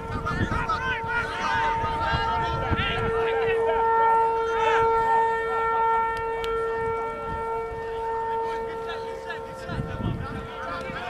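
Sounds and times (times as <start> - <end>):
steady horn tone: 0.0 - 11.0.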